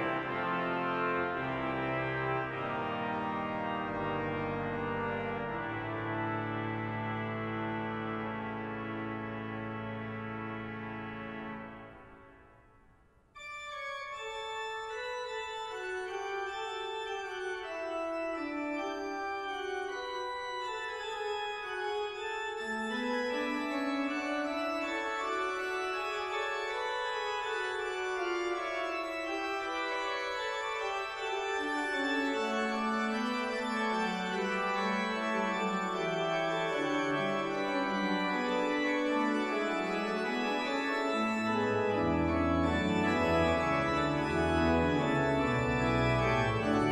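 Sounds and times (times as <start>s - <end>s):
pipe organ playing chords: 0.0s - 12.5s, 13.4s - 46.9s.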